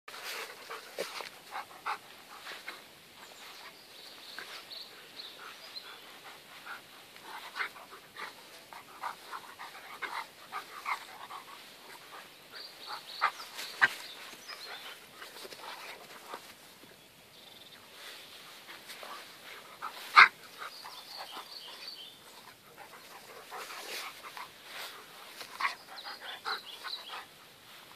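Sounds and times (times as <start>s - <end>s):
animals scuffling: 0.1s - 17.0s, 17.9s - 27.9s
animals snuffling and panting: 0.1s - 17.0s, 17.8s - 27.9s.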